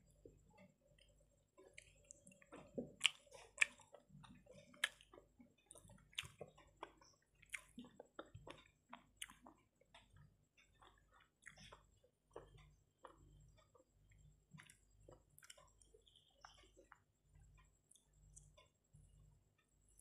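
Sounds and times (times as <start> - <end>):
wet chewing: 0.2 - 17.1.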